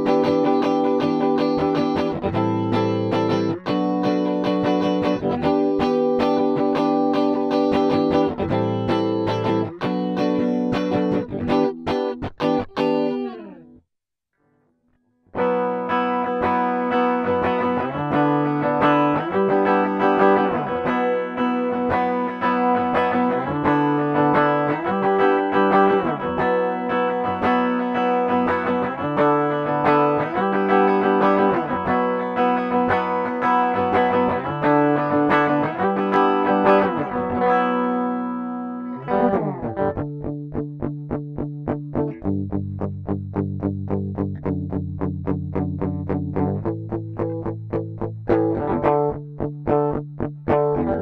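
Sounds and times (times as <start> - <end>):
clean electric guitar chords: 0.0 - 13.8, 15.4 - 51.0.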